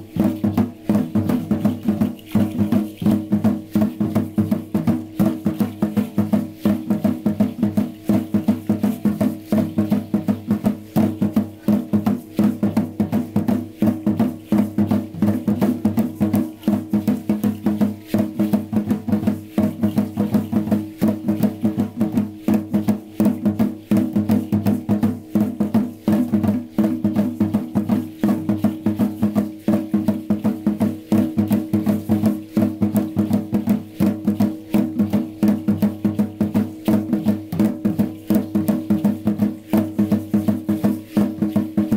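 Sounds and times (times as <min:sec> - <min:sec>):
percussion dance music: 0:00.0 - 0:41.9.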